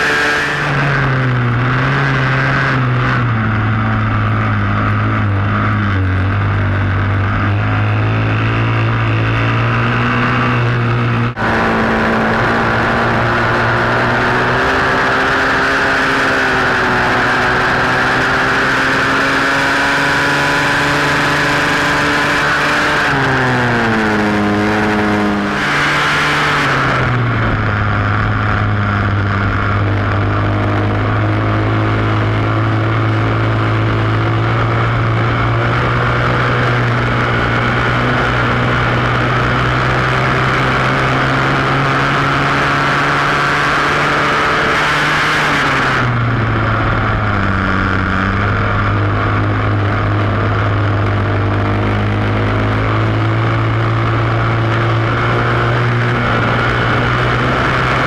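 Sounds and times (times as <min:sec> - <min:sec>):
motorcycle engine revving high: 0:00.0 - 0:58.0.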